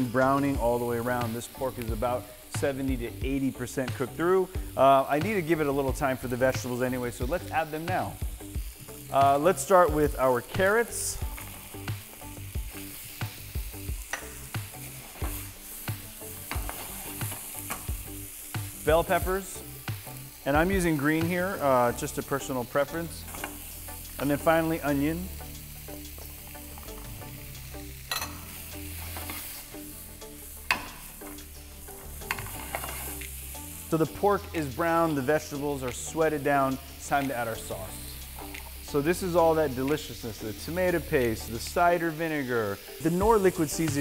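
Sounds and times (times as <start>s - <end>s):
meat sizzling in a frying pan: 0.0s - 44.0s.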